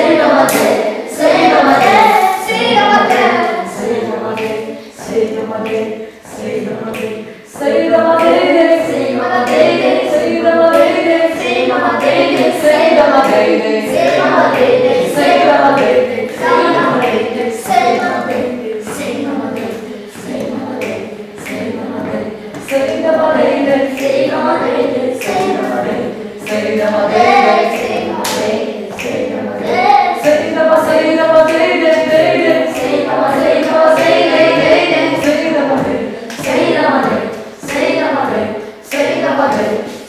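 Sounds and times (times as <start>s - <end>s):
group singing unaccompanied: 0.0s - 40.0s.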